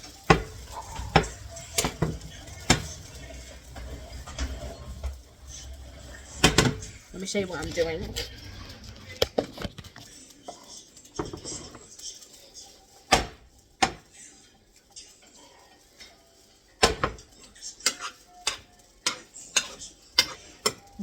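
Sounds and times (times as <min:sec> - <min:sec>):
metal utensil clanking on cookware: 0:00.0 - 0:12.4, 0:15.2 - 0:21.0.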